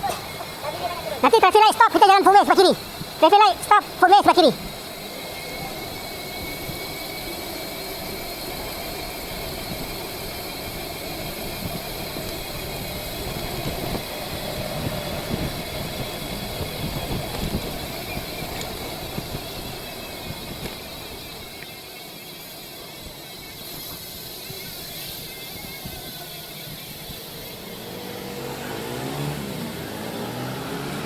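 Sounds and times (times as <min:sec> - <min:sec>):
road traffic: 0:00.0 - 0:21.5, 0:26.3 - 0:31.0.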